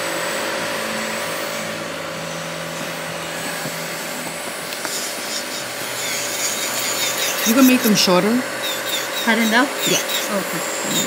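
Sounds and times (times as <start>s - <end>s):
small motor whirring: 0.0s - 11.0s.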